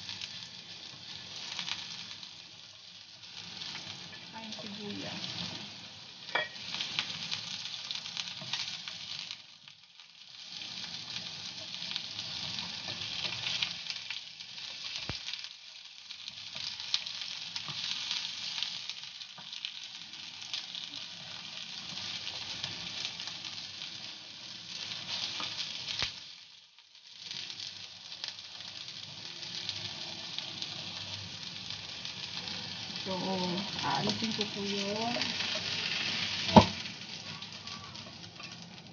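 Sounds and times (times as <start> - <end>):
spatula turning food: 0.0 - 9.4, 10.0 - 26.4, 27.2 - 38.9
food sizzling in hot oil: 0.0 - 38.9.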